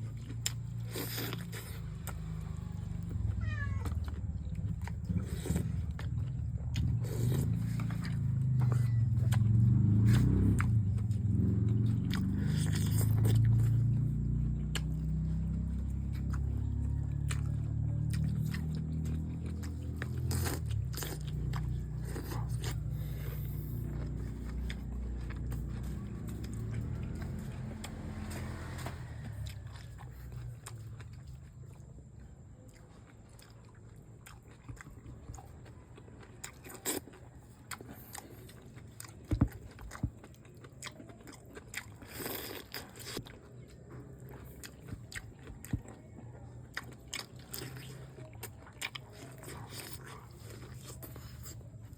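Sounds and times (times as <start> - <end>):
person chewing and biting: 0.0 - 51.9.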